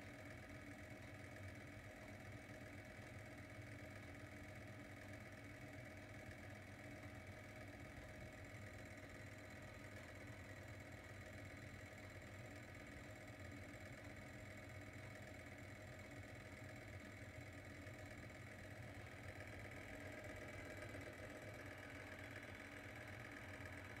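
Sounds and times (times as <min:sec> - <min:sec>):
lamp motor humming with tones: 0:00.0 - 0:24.0.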